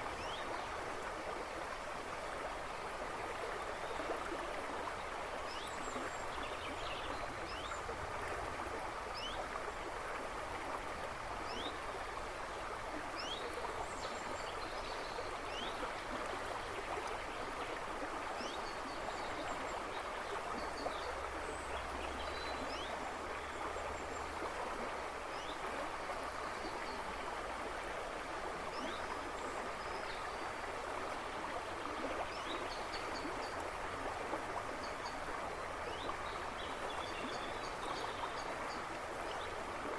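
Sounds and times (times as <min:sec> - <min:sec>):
river rushing and babbling: 0:00.0 - 0:39.9.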